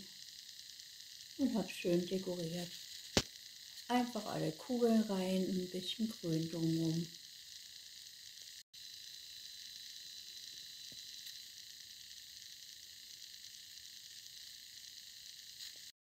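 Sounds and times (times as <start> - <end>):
faint steady hiss: 0.0 - 15.9
thin high whine: 0.0 - 16.0.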